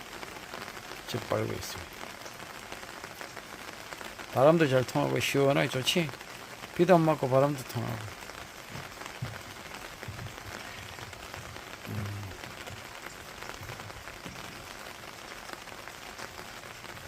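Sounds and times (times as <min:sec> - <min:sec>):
dull low drips: 0:00.0 - 0:17.0
steady rain falling: 0:00.0 - 0:17.0.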